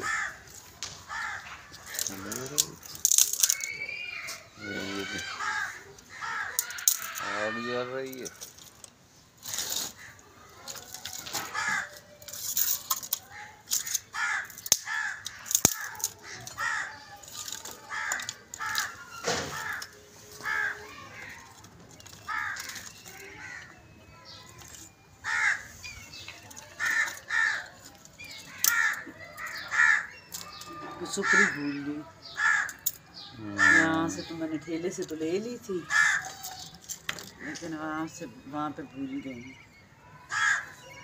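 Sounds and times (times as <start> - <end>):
crows cawing: 0.0 - 8.6, 9.7 - 24.6, 25.2 - 37.9, 39.4 - 41.0.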